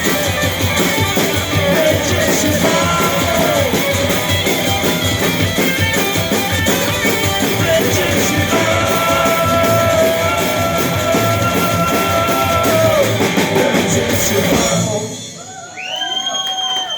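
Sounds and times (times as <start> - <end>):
live rock band: 0.0 - 15.5
steady drumming: 0.0 - 15.6.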